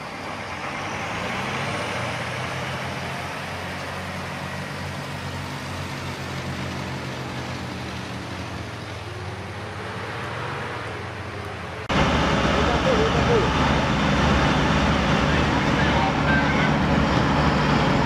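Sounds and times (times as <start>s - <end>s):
truck engine droning: 0.0s - 18.0s
tyre and road noise: 0.0s - 18.0s.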